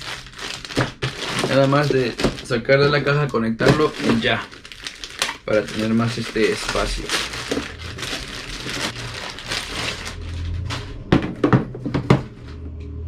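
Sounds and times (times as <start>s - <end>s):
packaging rustling: 0.0s - 11.3s.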